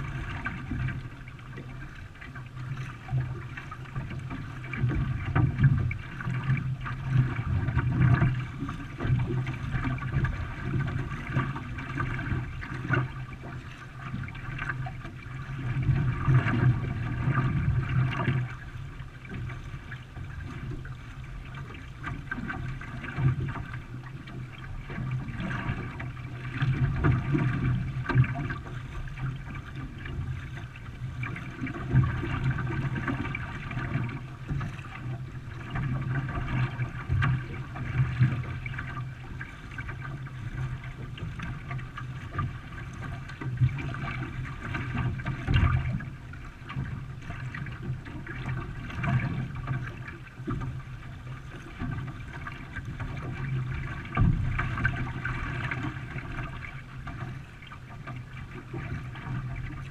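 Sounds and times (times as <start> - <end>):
water splashing around paddled canoe: 0.0 - 59.9.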